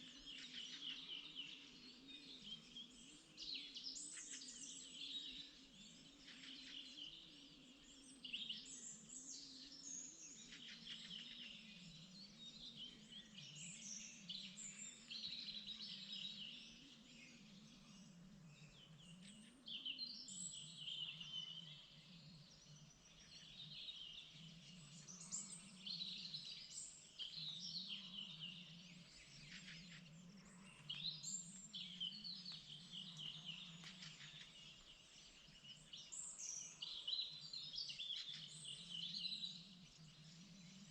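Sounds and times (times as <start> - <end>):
faint low wavering hum: 0.0 - 40.9
songbirds singing: 0.0 - 40.9.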